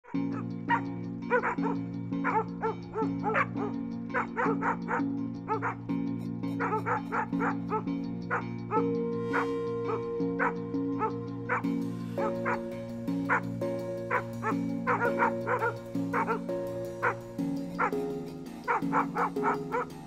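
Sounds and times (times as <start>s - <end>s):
dogs barking: 0.0s - 20.0s.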